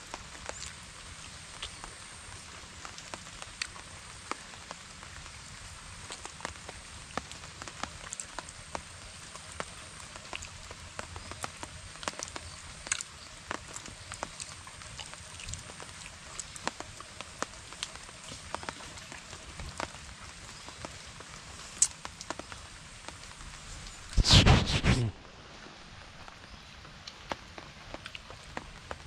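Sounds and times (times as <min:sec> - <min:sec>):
raindrops ticking: 0:00.0 - 0:24.1, 0:26.2 - 0:29.0
light rain hissing: 0:00.0 - 0:29.0.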